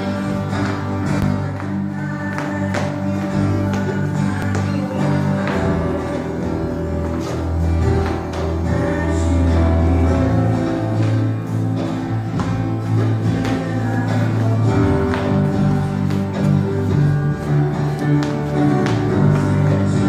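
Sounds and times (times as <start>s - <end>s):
guitar music with steady beat: 0.0s - 20.0s.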